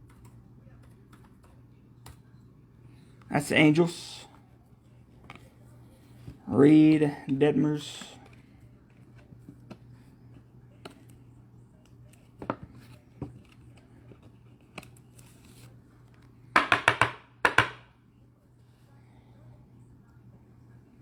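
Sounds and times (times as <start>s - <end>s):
faint low hum: 0.0s - 16.6s, 17.3s - 21.0s.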